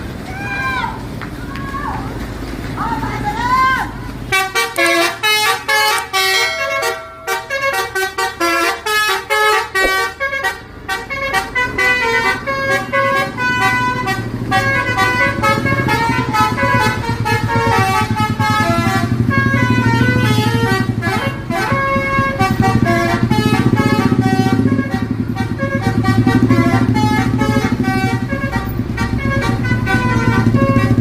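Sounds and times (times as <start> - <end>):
bus engine running low: 0.0 - 31.0
bus musical horn tune: 4.2 - 31.0.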